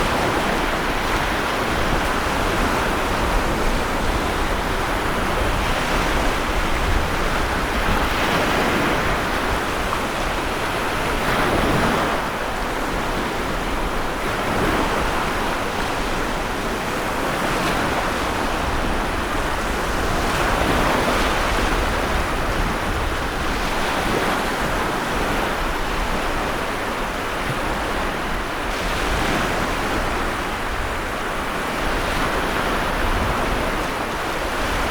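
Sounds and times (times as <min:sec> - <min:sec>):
rushing water: 0:00.0 - 0:34.9
wind: 0:00.0 - 0:34.9.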